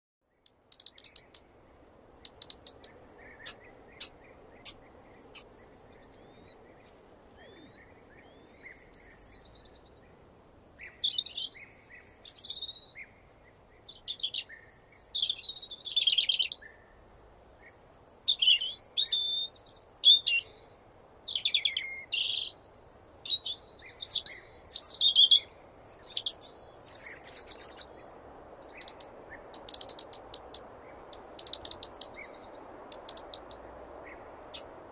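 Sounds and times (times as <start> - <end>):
robin singing: 0.2 - 34.9.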